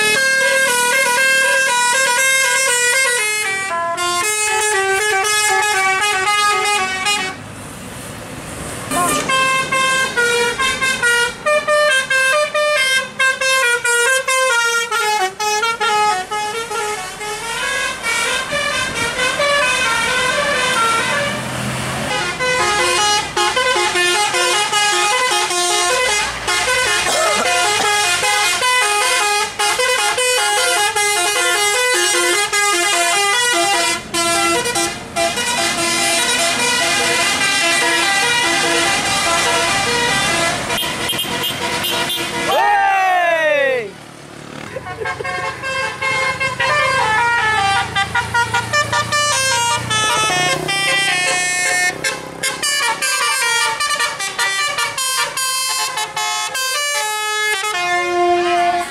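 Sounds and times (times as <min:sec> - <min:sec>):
bus horns playing melodies: 0:00.0 - 0:07.5, 0:08.9 - 0:42.8, 0:44.5 - 0:58.9.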